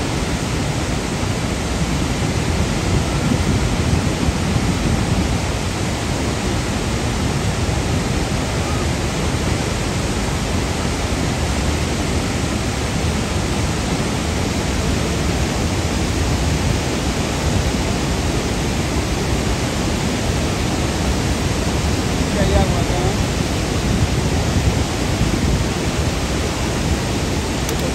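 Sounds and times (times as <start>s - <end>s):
waterfall roaring: 0.0s - 27.9s.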